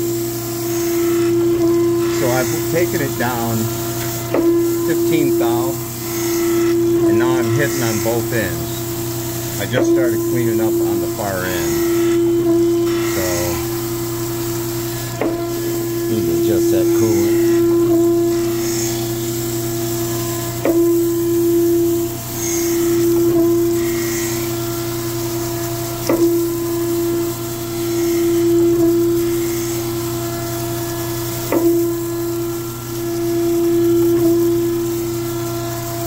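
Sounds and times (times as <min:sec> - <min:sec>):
grinding wheel on metal: 0:00.0 - 0:36.0
spindle hum: 0:00.0 - 0:36.0.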